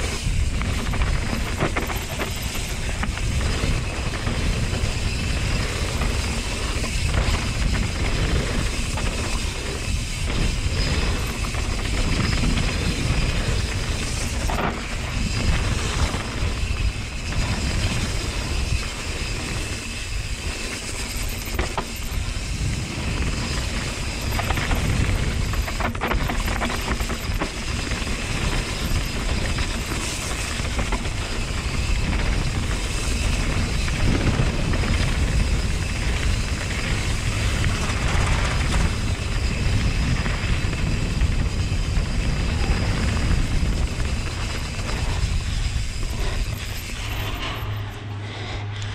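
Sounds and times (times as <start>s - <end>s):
bike knocks and rattles: 0.0s - 47.2s
tyres on dirt and gravel: 0.0s - 47.7s
wind buffeting on microphone: 0.0s - 48.9s.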